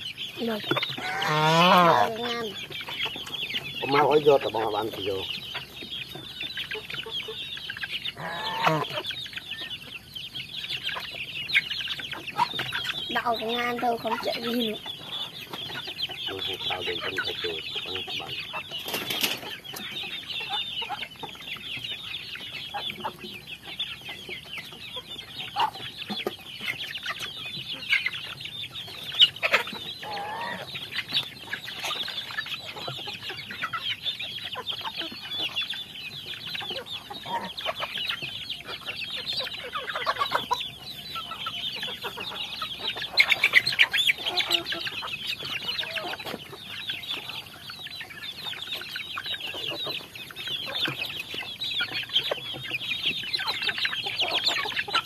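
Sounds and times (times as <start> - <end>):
beaks pecking on concrete: 0.0 - 55.0
chickens clucking and peeping: 0.0 - 55.0.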